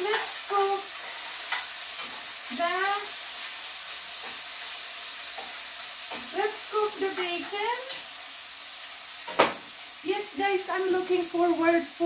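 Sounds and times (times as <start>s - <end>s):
bacon sizzling in a pan: 0.0s - 12.0s.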